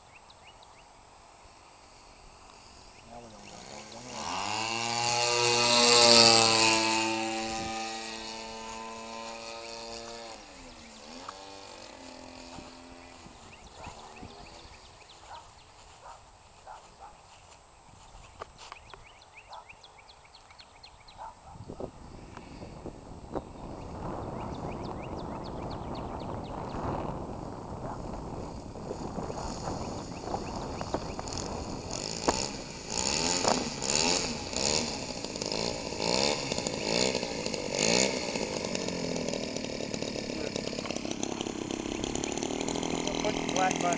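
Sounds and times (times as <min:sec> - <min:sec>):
distant model airplane engine: 0:00.0 - 0:43.9.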